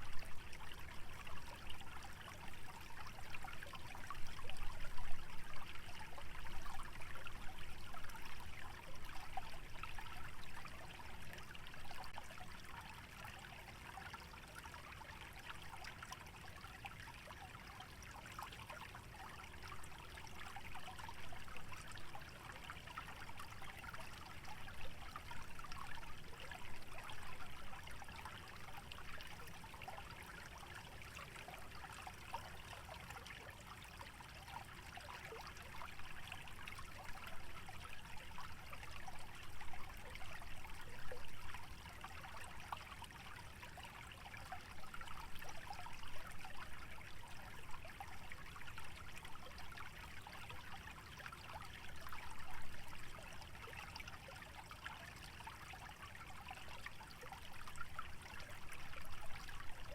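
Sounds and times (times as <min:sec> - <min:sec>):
stream trickling over shallows: 0:00.0 - 0:59.9.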